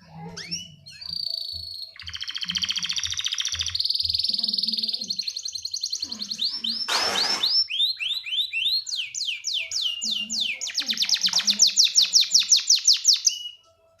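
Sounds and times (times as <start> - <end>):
canary singing: 0.0 - 13.9.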